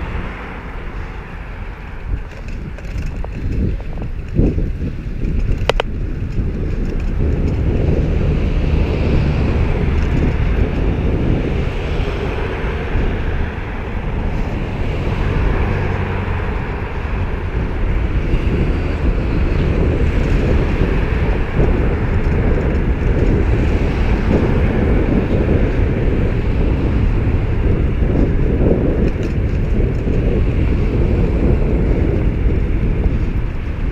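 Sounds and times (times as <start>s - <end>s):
motor traffic passing: 0.0s - 33.9s
wind buffeting microphone: 0.0s - 33.9s.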